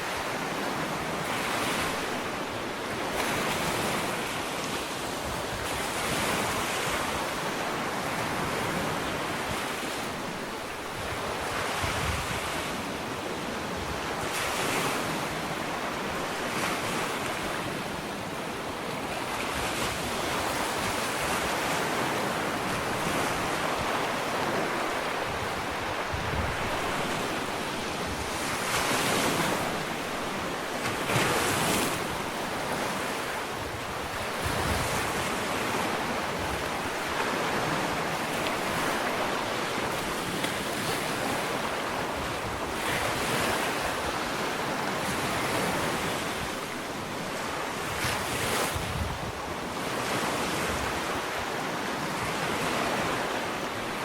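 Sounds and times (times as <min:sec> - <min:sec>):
ocean surf on a beach: 0:00.0 - 0:54.0
waves breaking: 0:00.0 - 0:54.0.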